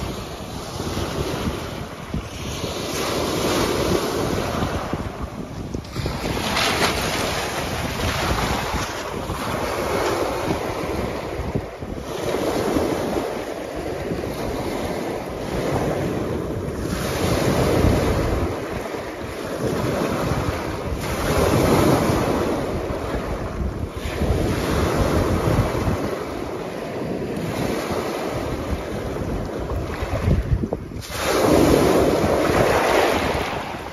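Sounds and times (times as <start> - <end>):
waves breaking on rocks: 0.0 - 33.9
wind on microphone: 0.0 - 33.9.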